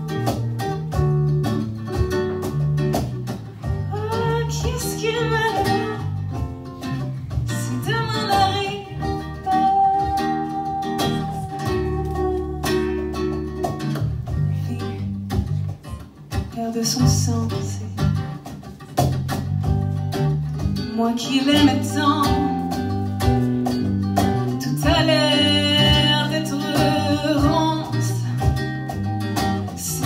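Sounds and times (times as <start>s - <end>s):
acoustic guitar: 0.0s - 30.0s
bass guitar: 0.0s - 30.0s
percussion beat: 0.0s - 30.0s.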